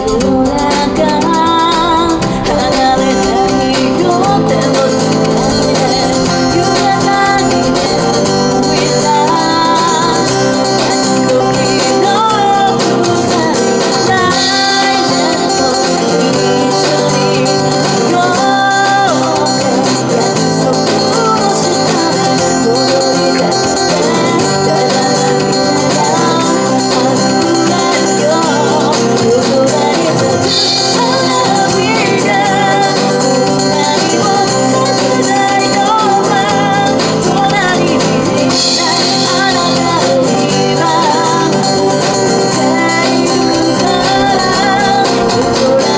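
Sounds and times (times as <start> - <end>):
acoustic guitars: 0.0 - 45.9
woman singing: 0.0 - 45.9.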